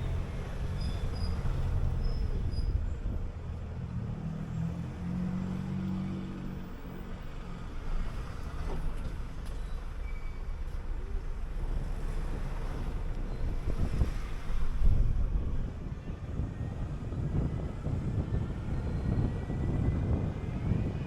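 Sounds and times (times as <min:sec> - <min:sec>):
bus engine running: 0:00.0 - 0:21.0.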